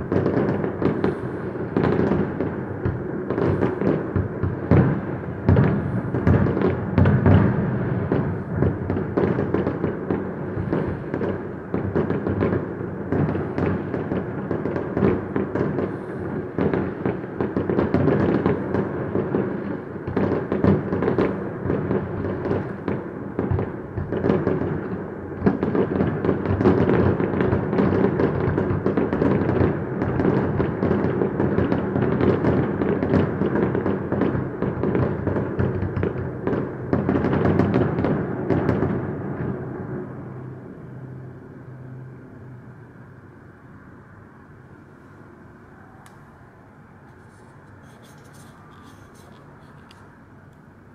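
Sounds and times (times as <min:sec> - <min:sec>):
fireworks bursting: 0:00.0 - 0:39.5, 0:47.1 - 0:50.2
fireworks crackle: 0:00.0 - 0:39.6, 0:47.1 - 0:50.2.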